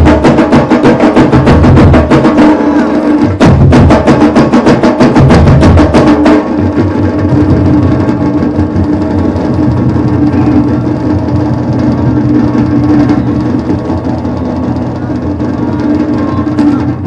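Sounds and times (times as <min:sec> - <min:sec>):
rapid drum strokes: 0:00.0 - 0:17.0.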